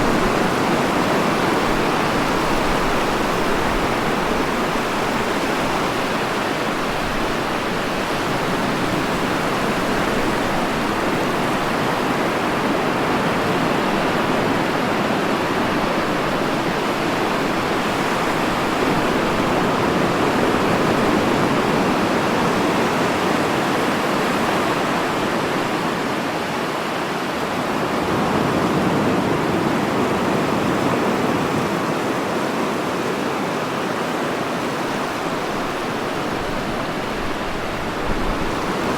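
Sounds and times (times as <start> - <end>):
sea surf washing on shore: 0.0 - 38.9.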